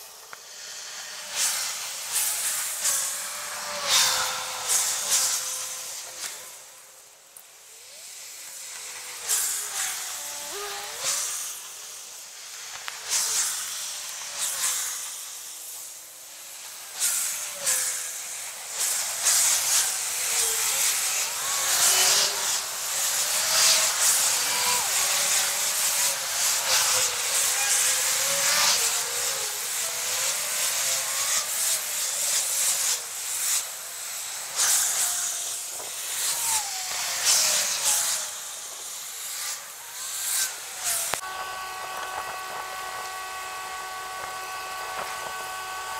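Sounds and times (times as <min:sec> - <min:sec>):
sped-up traffic hiss: 0:00.0 - 0:45.9.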